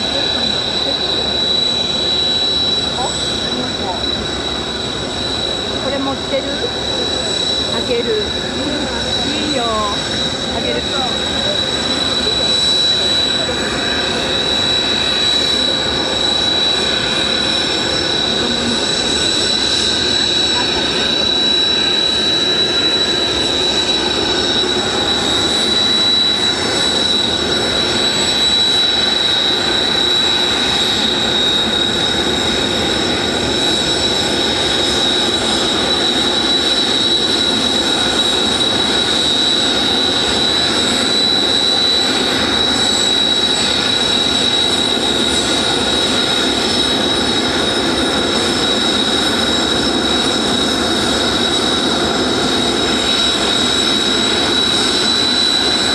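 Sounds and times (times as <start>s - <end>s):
jet engines whining: 0.0s - 55.9s.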